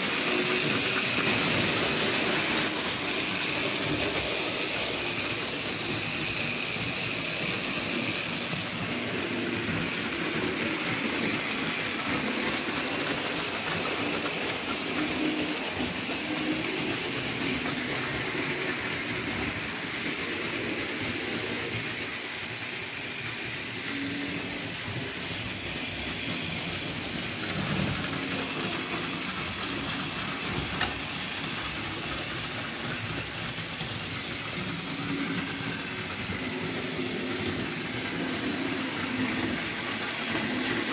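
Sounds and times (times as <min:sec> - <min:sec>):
model train whirring and rattling: 0:00.0 - 0:40.9.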